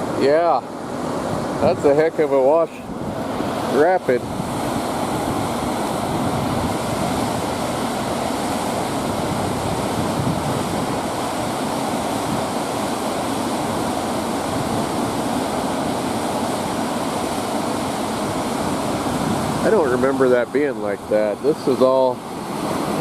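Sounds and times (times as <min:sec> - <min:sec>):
river rapids rushing: 0:00.0 - 0:23.0.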